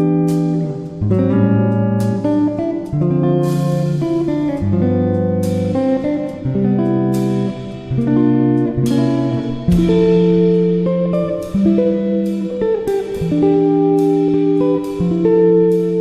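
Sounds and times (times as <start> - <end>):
guitar background music: 0.0 - 16.0.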